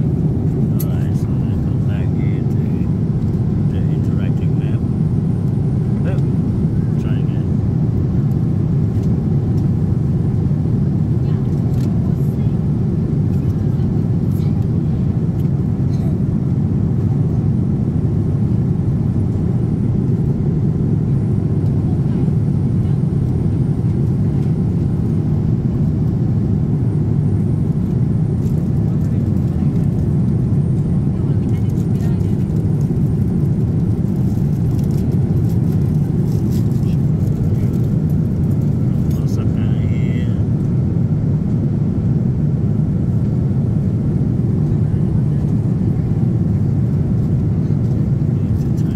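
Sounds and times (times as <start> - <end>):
airliner cabin noise: 0.0 - 48.9.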